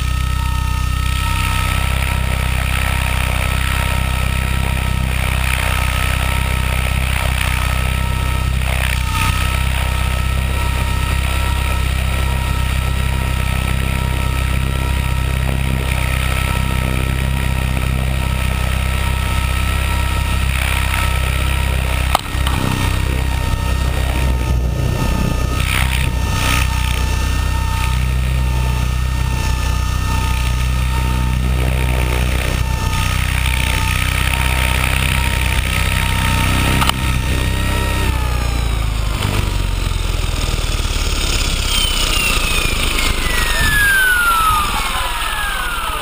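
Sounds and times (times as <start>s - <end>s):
helicopter rotor and motor noise: 0.0s - 46.0s.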